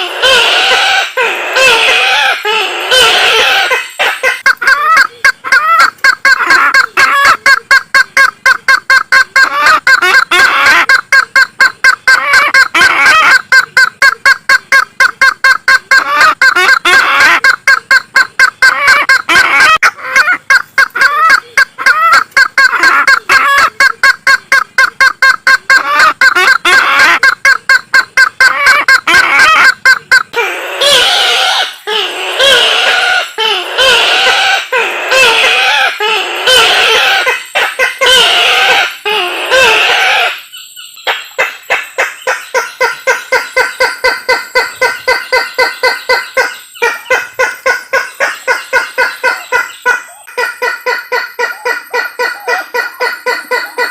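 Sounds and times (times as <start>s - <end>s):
cackling bird chorus: 0.0s - 53.9s
waterhen calling: 0.0s - 53.9s.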